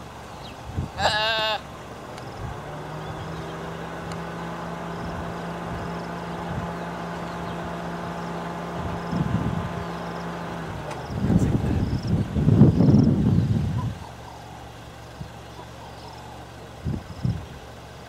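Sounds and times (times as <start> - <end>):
vehicle engine idling: 0.0 - 18.0
low rumble: 1.8 - 17.6.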